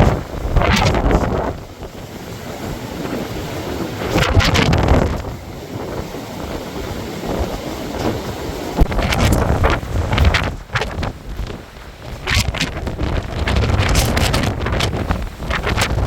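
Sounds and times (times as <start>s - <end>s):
wind gusting across microphone: 0.0s - 16.0s.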